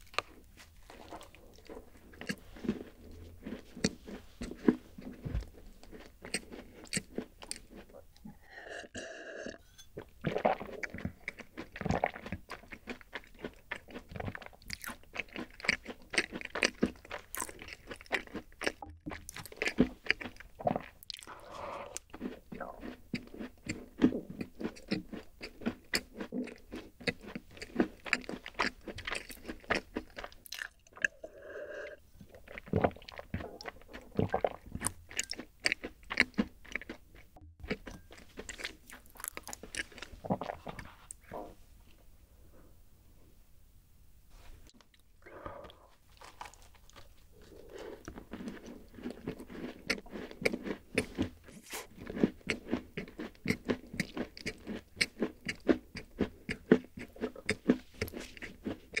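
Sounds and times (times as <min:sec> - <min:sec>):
person crunching a cookie: 0:00.0 - 0:08.0, 0:10.3 - 0:21.4, 0:22.0 - 0:31.1, 0:32.3 - 0:41.2, 0:45.7 - 0:59.0
wet mouth sounds: 0:00.1 - 0:41.6, 0:44.9 - 0:59.0.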